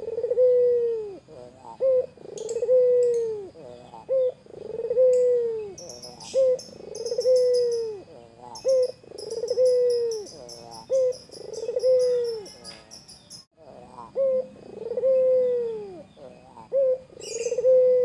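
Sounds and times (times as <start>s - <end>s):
dove cooing: 0.0s - 13.0s, 13.6s - 18.0s
small birds chirping: 0.0s - 18.0s.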